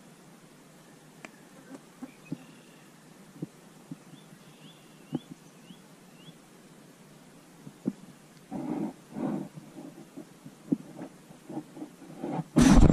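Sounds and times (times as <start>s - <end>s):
faint outdoor hiss: 0.0s - 12.9s.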